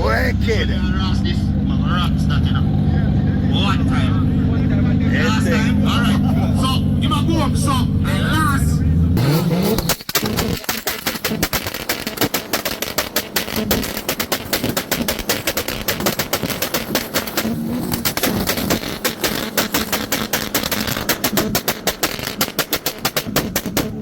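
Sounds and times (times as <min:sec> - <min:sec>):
car exhaust pops and bangs: 0:03.5 - 0:24.0.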